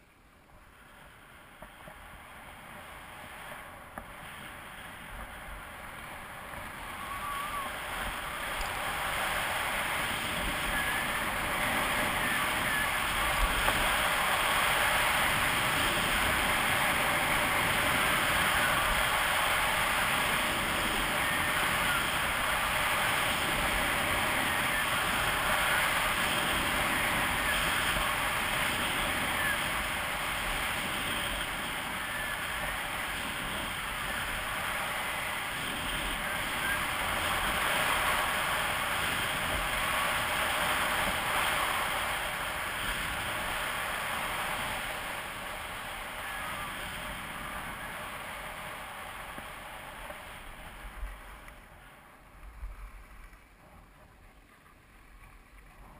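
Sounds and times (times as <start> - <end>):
skis scraping over snow: 0.0 - 55.9
wind rushing over microphone: 0.7 - 54.2.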